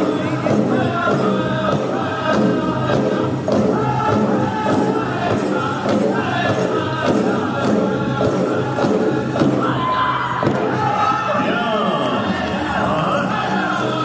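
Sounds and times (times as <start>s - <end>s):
steady drumbeat: 0.0s - 11.6s
group singing: 0.0s - 14.0s.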